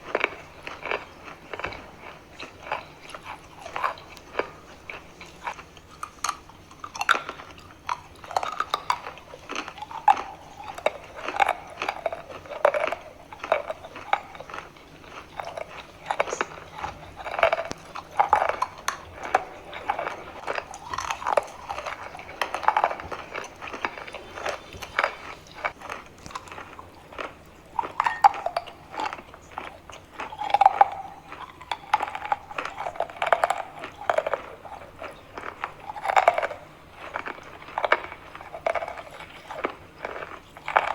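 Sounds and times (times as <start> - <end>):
chalk crunching being chewed: 0.0 - 40.9.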